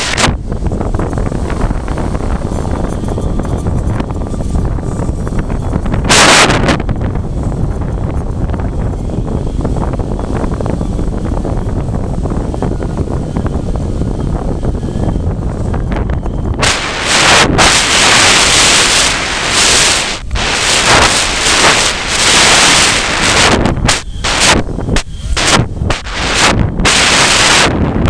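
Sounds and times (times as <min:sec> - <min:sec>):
gusty wind buffeting microphone: 0:00.0 - 0:28.0.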